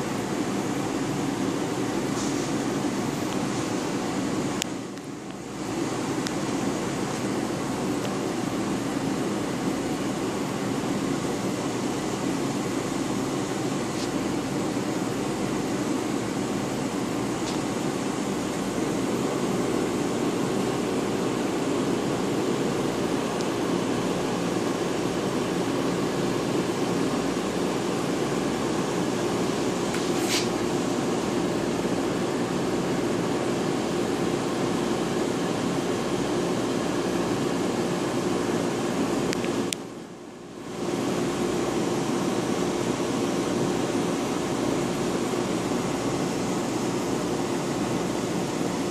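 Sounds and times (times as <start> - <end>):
aquarium pumps humming: 0.0 - 48.9.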